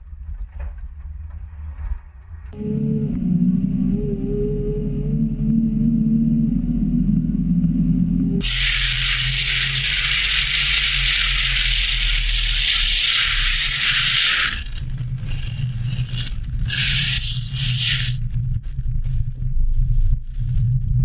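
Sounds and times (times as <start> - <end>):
car rumbling and scraping off-road: 0.0 - 21.0
road and tyre rumble: 0.0 - 21.0.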